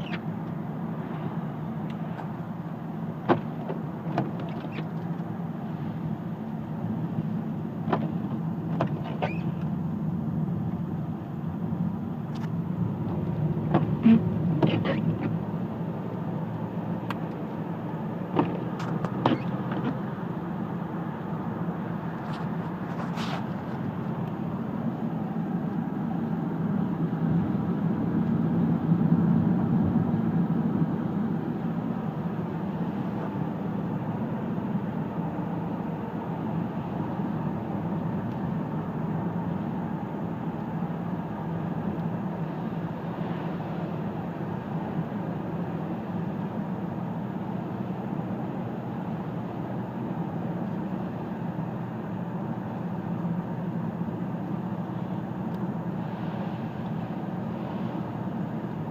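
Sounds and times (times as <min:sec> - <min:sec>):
car engine and tyre noise: 0:00.0 - 0:58.9.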